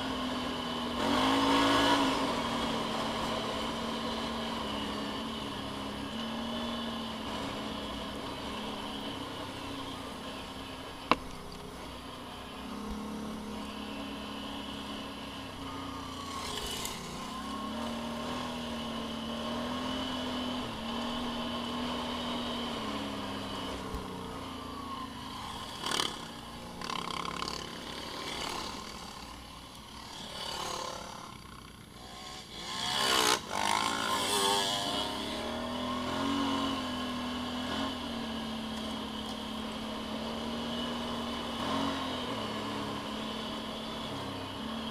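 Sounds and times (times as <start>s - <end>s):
off-road vehicle engines revving: 0.0s - 44.9s.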